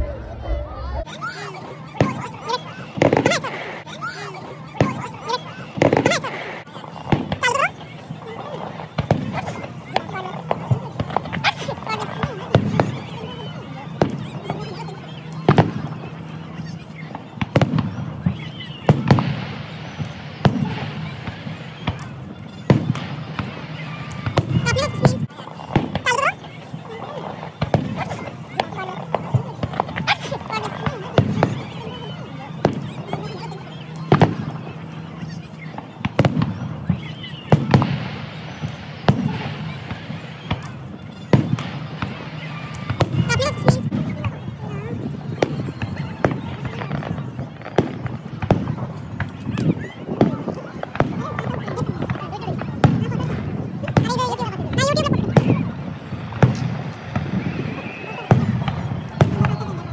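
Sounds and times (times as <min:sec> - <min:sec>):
firework bangs: 0:01.0 - 0:59.9
crackling hiss of firework stars: 0:01.1 - 0:59.9.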